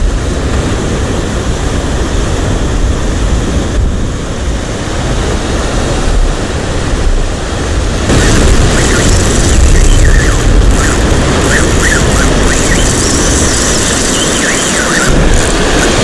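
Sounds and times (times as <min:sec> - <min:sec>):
surf washing on shore: 0:00.0 - 0:16.0
wind buffeting microphone: 0:00.0 - 0:16.0.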